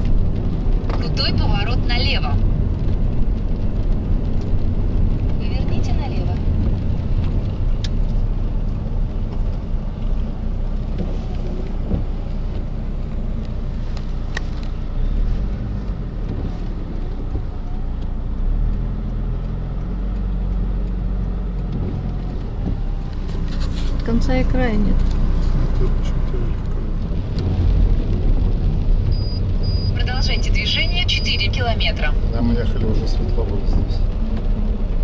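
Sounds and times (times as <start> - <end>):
road and engine rumble in car: 0.0 - 35.0.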